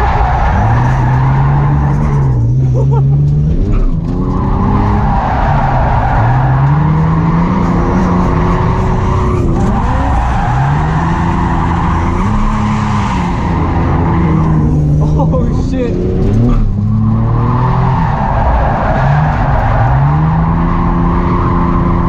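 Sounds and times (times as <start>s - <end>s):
car engine revving: 0.0s - 22.0s
tyres skidding: 0.0s - 22.0s.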